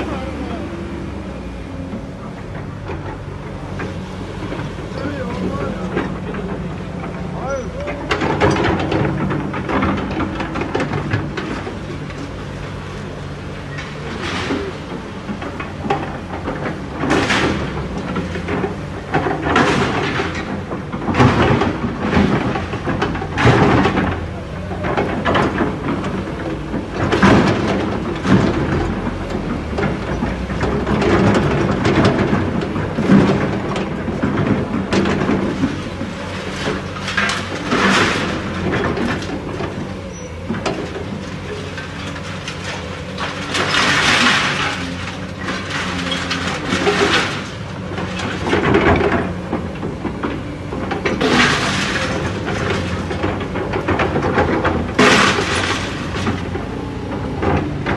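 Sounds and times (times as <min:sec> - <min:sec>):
heavy machine engine running: 0:00.0 - 0:57.9
scraping and crunching: 0:02.0 - 0:57.9.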